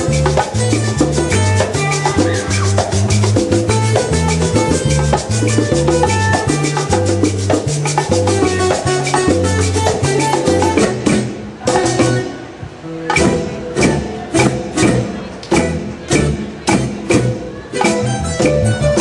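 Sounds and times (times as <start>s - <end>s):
live salsa band playing: 0.0s - 19.0s.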